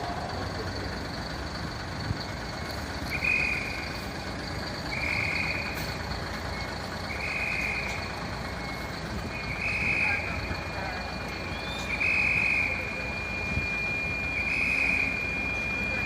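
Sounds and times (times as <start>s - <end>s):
diesel engine idling: 0.0s - 16.0s
high warning beeps: 0.0s - 16.0s.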